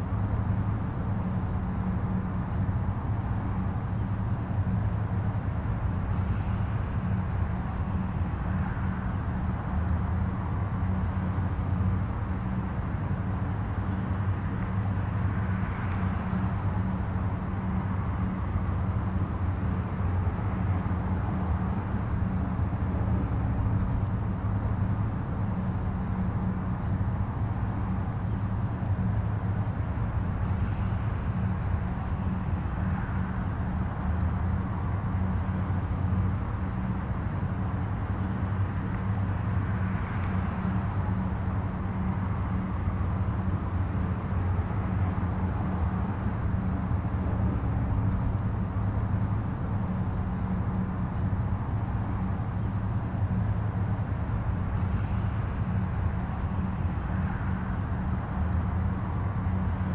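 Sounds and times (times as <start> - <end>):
distant highway traffic rumble: 0.0 - 59.9
tyre hiss of passing vehicles: 0.0 - 59.9.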